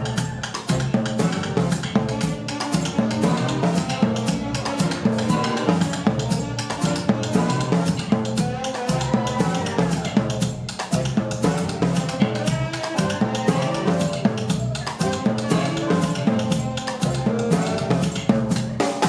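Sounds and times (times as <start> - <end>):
drum kit playing latin rhythm: 0.0 - 19.0
saxophone ensemble: 0.0 - 19.0.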